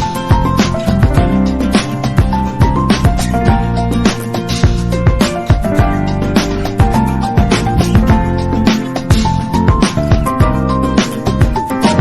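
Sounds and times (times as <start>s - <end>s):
upbeat music with plucked melody: 0.0s - 12.0s.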